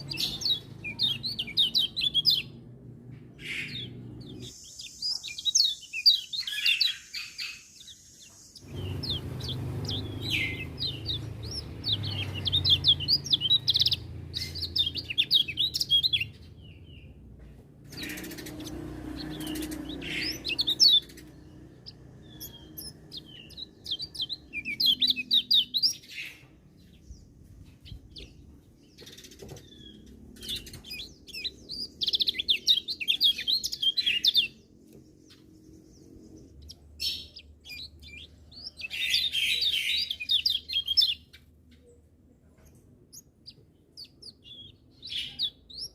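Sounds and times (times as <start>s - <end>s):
bird twittering chirps: 0.0s - 17.2s, 17.8s - 42.0s, 43.1s - 45.9s.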